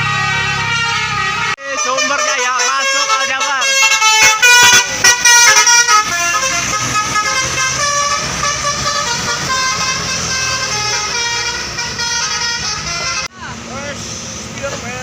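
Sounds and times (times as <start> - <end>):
bus engine running: 0.0 - 1.6, 2.2 - 15.0
bus musical horn tune: 0.0 - 13.3.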